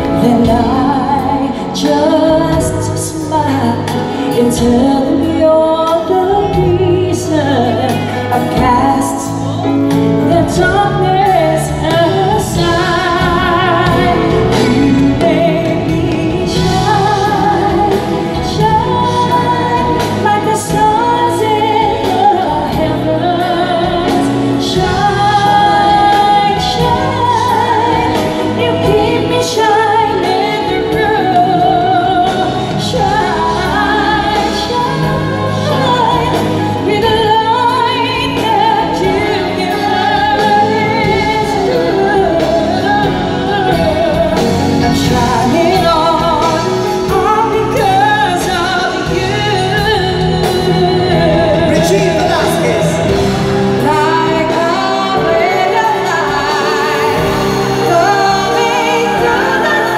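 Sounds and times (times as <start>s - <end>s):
live band playing: 0.0s - 59.9s
voices singing with vibrato: 0.0s - 59.9s.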